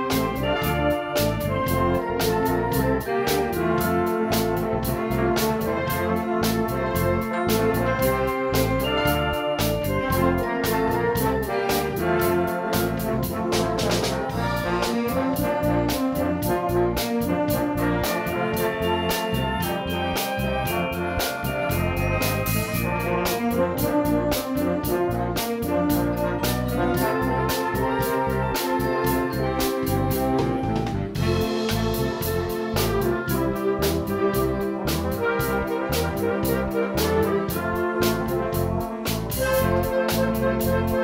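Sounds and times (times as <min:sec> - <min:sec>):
wind band playing: 0:00.0 - 0:41.0.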